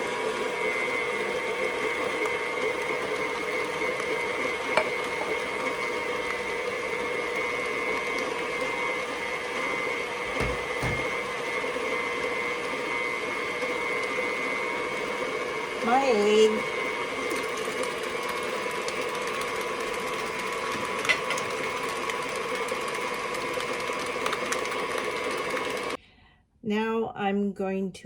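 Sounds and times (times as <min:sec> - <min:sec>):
food processor motor whining: 0:00.0 - 0:26.0.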